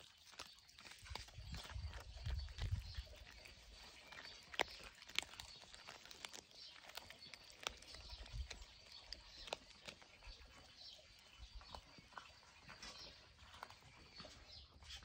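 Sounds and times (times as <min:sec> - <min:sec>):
cat chewing crunching: 0:00.0 - 0:14.4.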